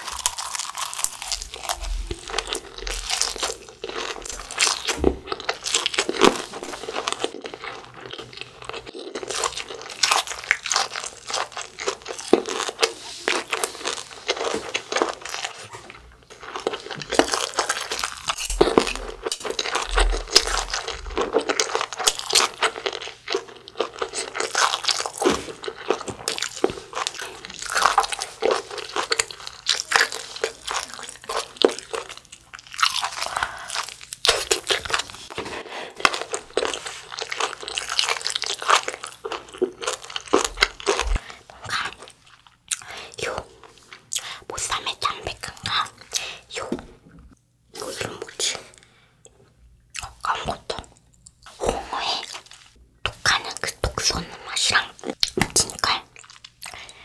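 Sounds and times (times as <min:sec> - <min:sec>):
crunchy chewing: 0:00.0 - 0:46.7, 0:54.7 - 0:57.0.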